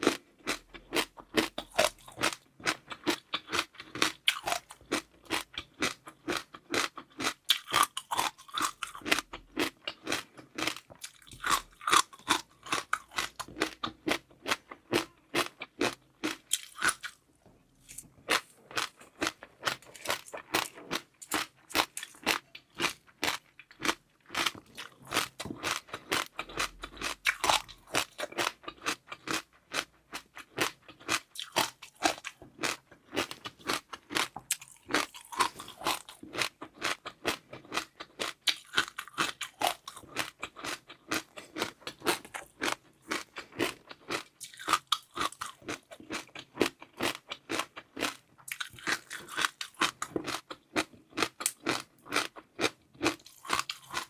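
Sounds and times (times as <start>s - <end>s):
crisp chewing crunches: 0.0s - 54.0s.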